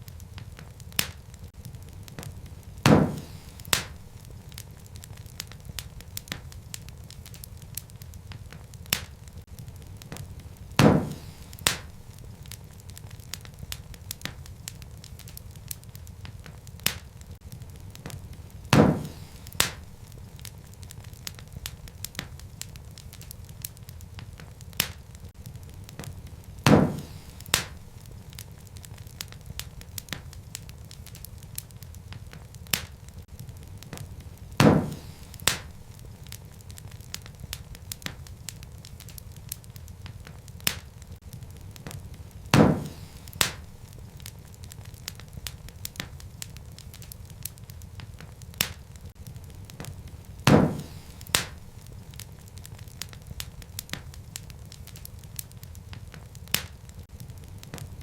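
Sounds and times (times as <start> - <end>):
fire crackling: 0.0 - 58.0
sharp pops of burning wood: 0.0 - 58.0.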